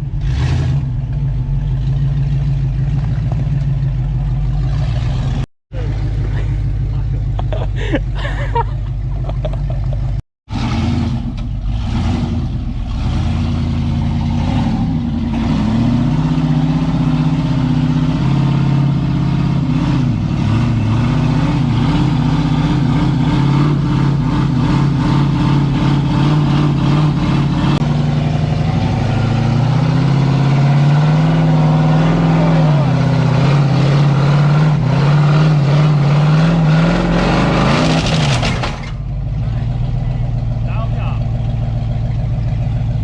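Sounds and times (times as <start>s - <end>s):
truck engine revving: 0.0s - 43.0s.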